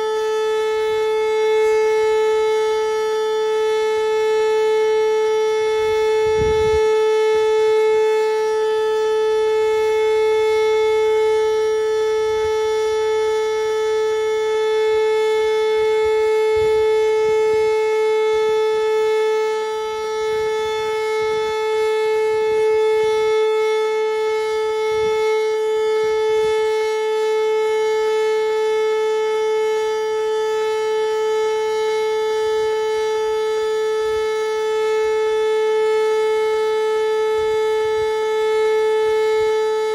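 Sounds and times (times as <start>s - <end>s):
tornado warning siren steady tone: 0.0s - 39.9s.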